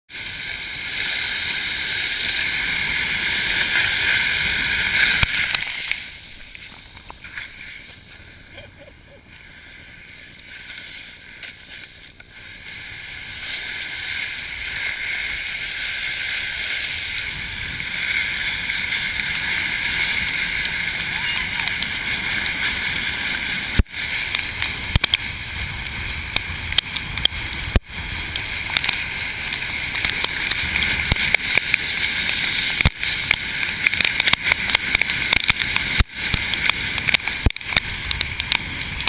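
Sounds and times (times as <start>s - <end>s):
board sliding over gravel: 0.1s - 39.0s.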